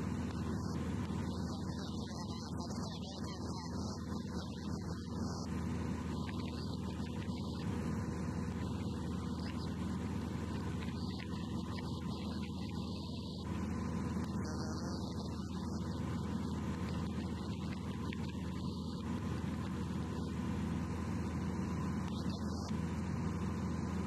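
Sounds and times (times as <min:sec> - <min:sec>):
aircraft piston engine droning: 0:00.0 - 0:24.0.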